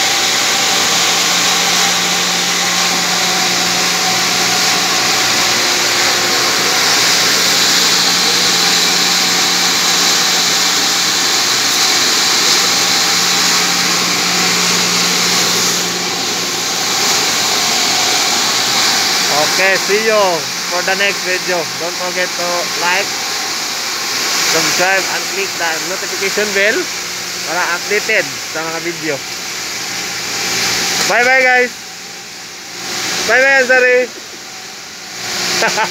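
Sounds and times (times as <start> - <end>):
water pump motors humming: 0.0 - 35.9.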